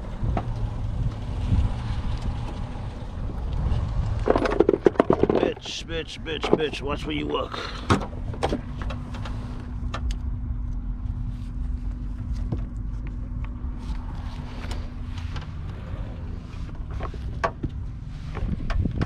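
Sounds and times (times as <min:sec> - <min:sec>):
vehicle engine rumbling: 0:00.0 - 0:19.0
thin steady hum: 0:02.8 - 0:19.0.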